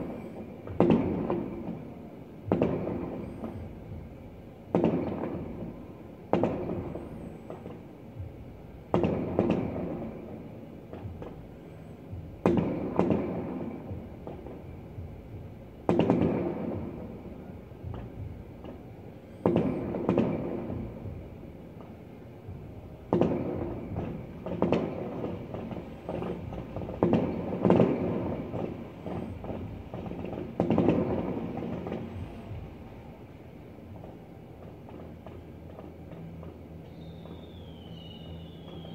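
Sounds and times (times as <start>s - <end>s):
distant fireworks booming: 0.0s - 38.9s.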